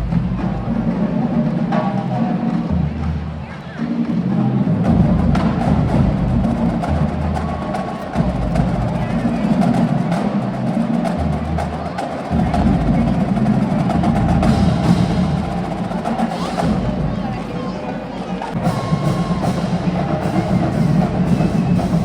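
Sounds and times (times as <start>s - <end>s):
drums and percussion: 0.0s - 22.0s
marching band playing: 0.0s - 22.0s.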